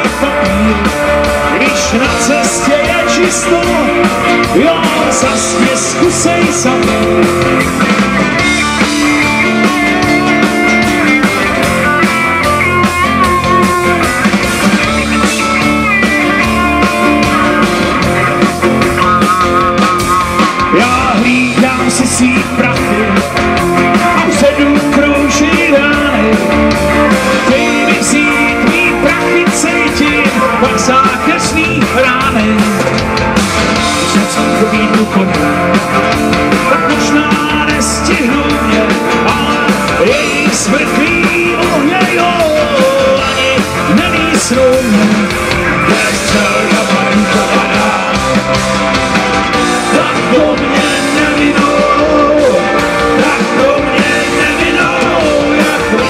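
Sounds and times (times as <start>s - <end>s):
accordion: 0.0s - 56.0s
drum kit beat: 0.0s - 56.0s
electric guitar: 0.0s - 56.0s.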